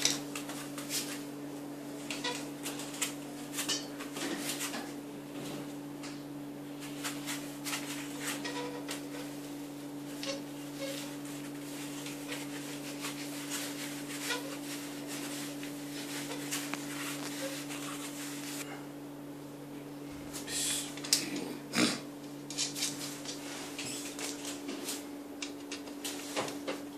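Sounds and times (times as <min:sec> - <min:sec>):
steady hum: 0:00.0 - 0:26.9.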